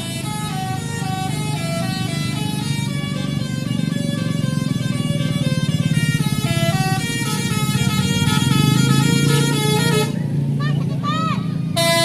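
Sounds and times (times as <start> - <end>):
bus musical horn playing tune: 0.0 - 10.2, 11.7 - 12.0
bus engine running: 0.0 - 12.0.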